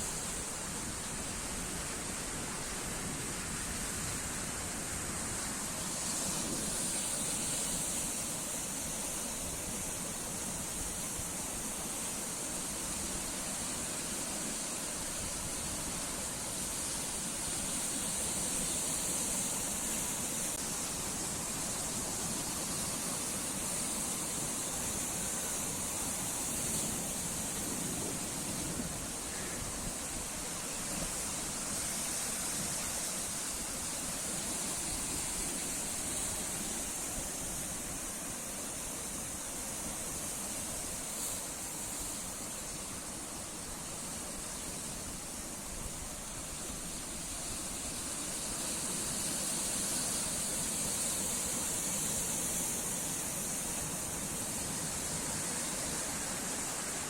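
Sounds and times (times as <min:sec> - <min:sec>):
waves washing on shore: 0:00.0 - 0:57.0.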